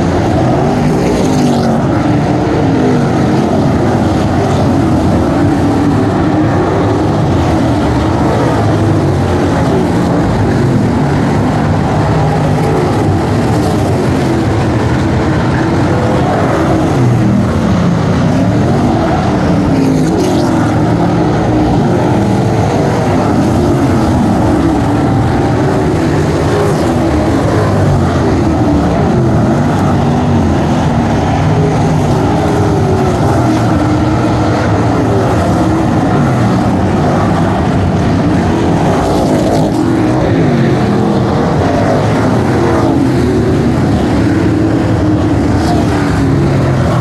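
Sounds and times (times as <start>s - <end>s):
race car engines: 0.0s - 47.0s.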